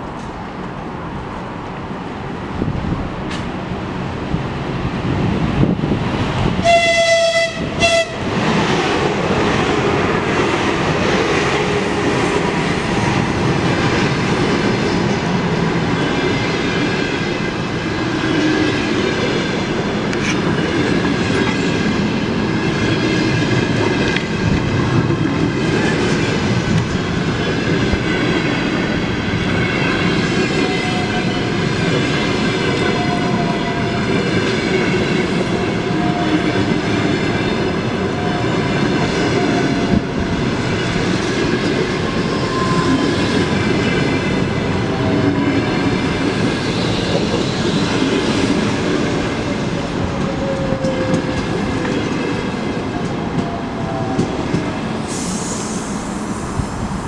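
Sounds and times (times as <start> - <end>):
train wheels rumbling and clattering: 0.0 - 57.0.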